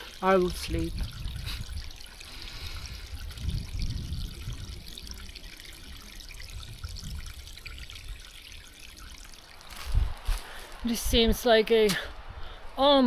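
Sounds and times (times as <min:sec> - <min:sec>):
creek trickling: 0:00.0 - 0:12.9.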